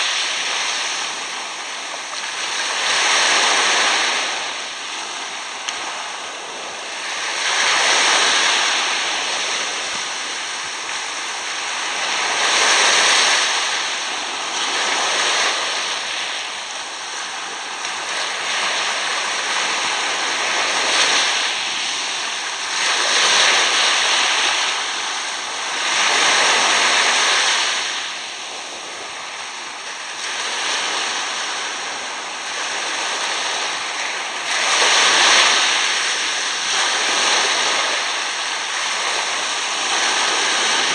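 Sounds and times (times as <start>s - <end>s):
small waves washing on sand: 0.0s - 40.9s.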